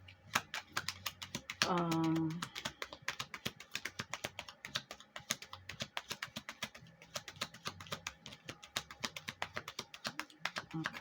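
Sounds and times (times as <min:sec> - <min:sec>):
rapid irregular clicking: 0:00.0 - 0:11.0.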